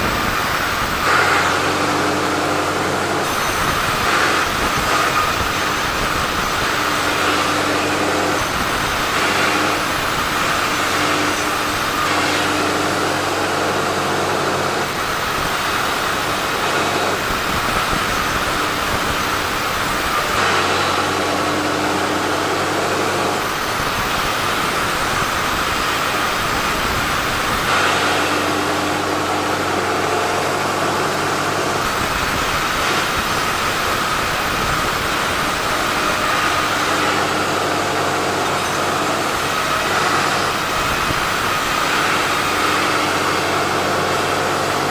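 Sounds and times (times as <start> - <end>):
sawmill saw cutting logs: 0.0 - 44.9.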